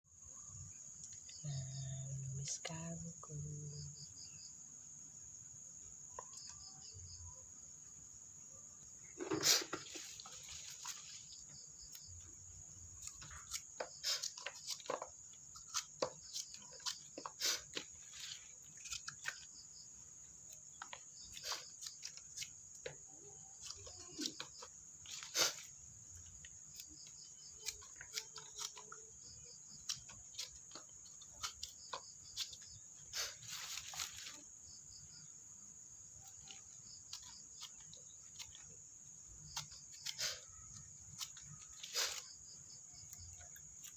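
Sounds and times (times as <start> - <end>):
insects trilling: 0.1 - 43.9.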